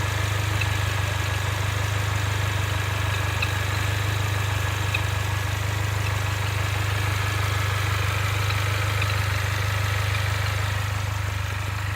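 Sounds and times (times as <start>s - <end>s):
car engine droning: 0.0s - 11.9s.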